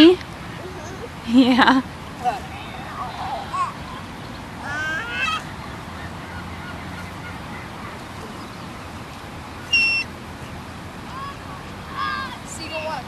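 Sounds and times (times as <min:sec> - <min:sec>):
seagulls calling: 0:02.2 - 0:12.7.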